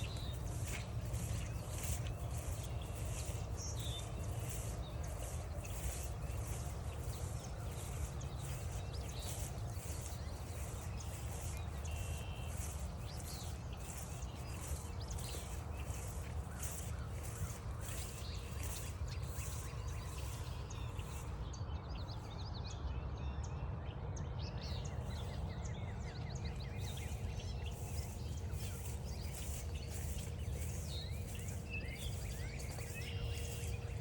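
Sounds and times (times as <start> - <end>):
footsteps crunching on trail: 0.0 - 21.5, 25.0 - 34.0.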